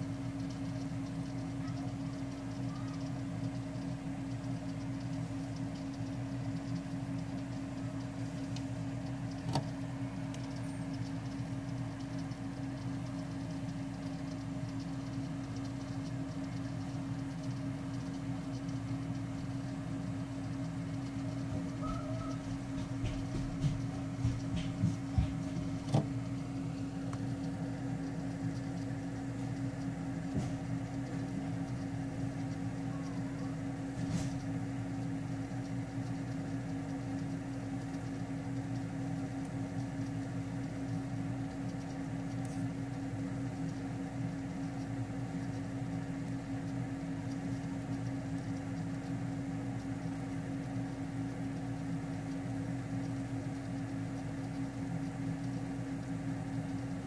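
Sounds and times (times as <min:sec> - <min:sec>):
mechanical hum: 0:00.0 - 0:57.0.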